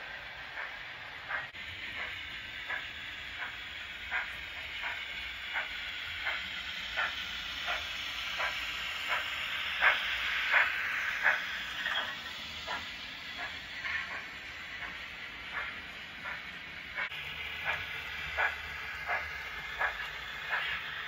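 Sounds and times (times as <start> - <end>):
steady steam hiss: 0.0 - 21.0
steam locomotive chuffs: 0.0 - 21.0.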